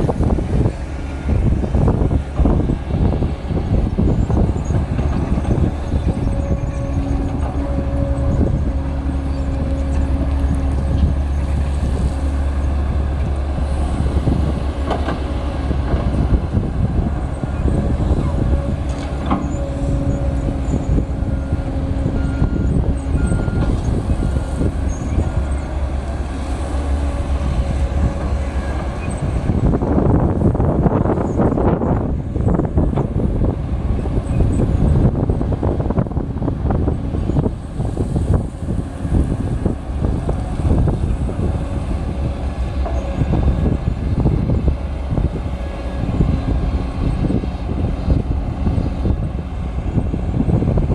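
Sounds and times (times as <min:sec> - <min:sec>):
diesel engines droning: 0:00.0 - 0:50.9
wind buffeting microphone: 0:00.0 - 0:50.9.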